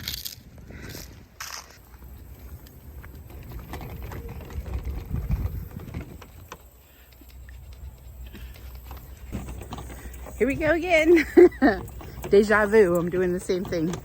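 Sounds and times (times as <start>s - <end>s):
footsteps on a path: 0.0s - 14.0s.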